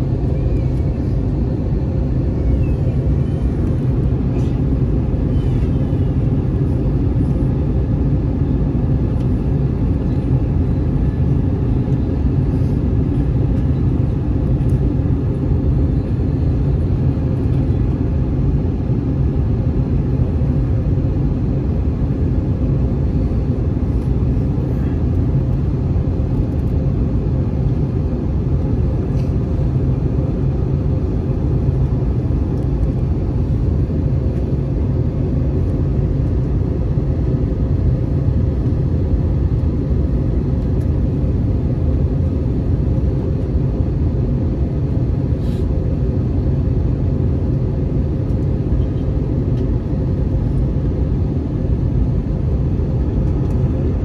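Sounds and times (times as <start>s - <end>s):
faint steady hum: 0.0s - 54.0s
jet engine and airflow rumble: 0.0s - 54.0s.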